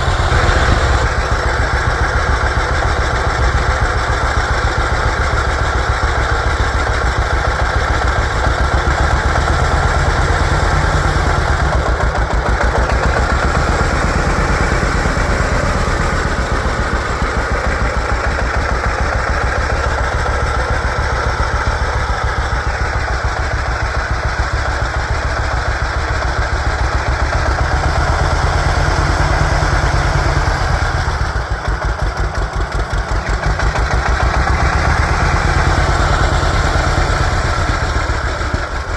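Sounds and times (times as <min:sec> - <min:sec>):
two-cylinder tractor engine running: 0:00.0 - 0:38.9.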